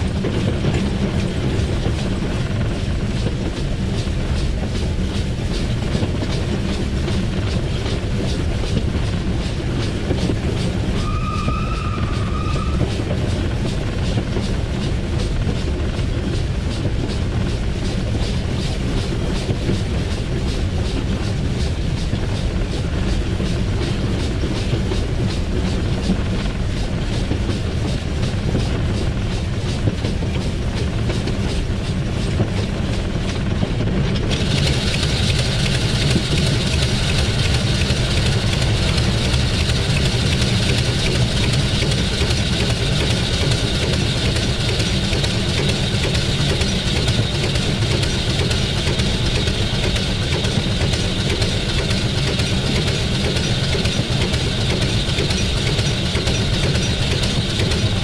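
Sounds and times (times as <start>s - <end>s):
locomotive wheels on rails: 0.0s - 58.0s.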